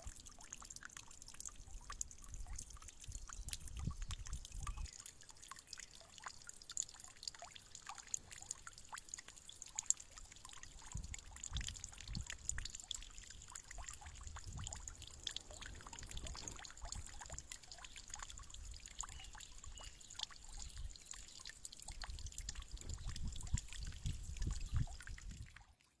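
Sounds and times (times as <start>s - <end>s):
water trickling and dripping: 0.0s - 26.0s.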